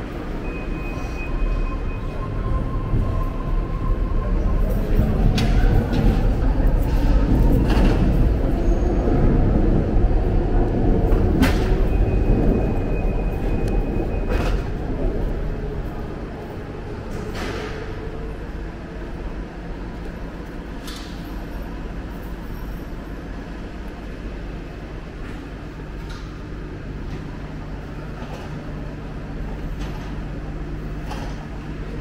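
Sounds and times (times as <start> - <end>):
droning hum: 0.0 - 32.0
low rumble of vehicles: 0.0 - 32.0.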